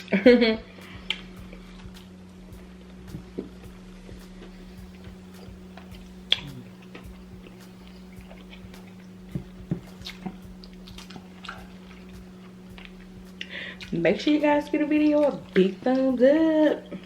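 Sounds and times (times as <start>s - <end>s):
people chewing food: 0.0s - 17.0s
steady low hum: 0.0s - 17.0s.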